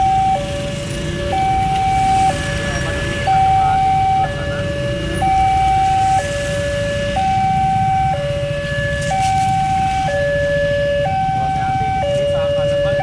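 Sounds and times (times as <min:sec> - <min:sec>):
engines idling: 0:00.0 - 0:13.0
two-tone crossing alarm: 0:00.0 - 0:13.0.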